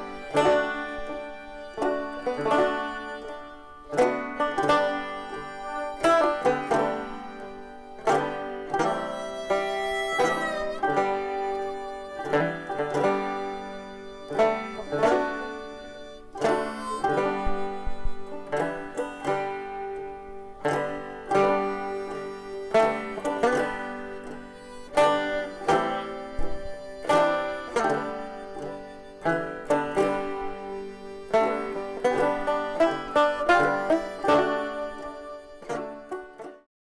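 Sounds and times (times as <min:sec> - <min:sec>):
plucked banjo tune: 0:00.0 - 0:36.7.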